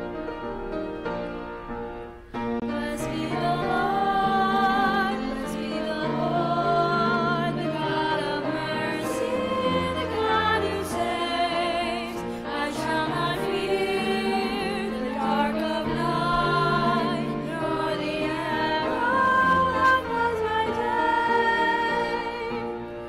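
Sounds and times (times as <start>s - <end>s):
congregation singing a hymn: 2.6s - 23.0s.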